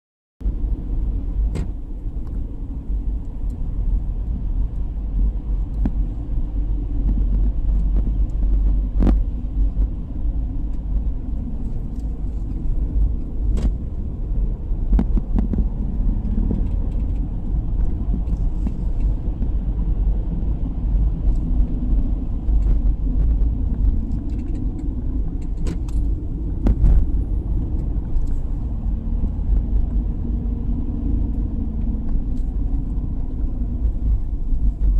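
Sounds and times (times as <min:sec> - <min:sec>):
car engine and tyres rumbling: 0:00.4 - 0:34.9.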